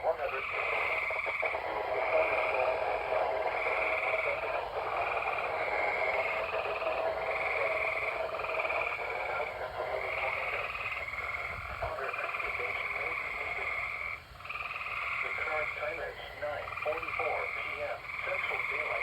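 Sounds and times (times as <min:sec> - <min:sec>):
frogs calling: 0:00.0 - 0:19.0.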